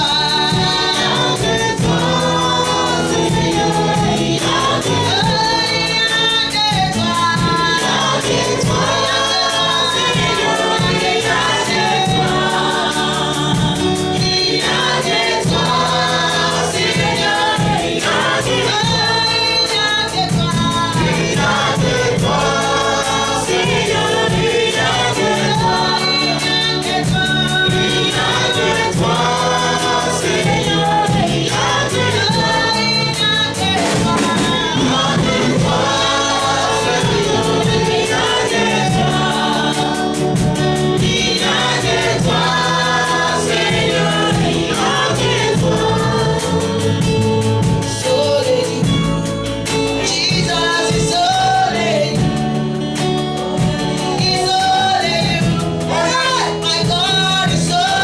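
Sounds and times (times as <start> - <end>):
choir singing: 0.0 - 58.0
instrumental backing with steady beat: 0.0 - 58.0.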